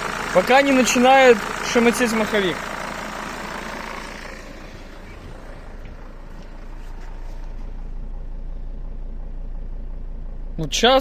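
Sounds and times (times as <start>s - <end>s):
diesel van engine idling: 0.0s - 11.0s.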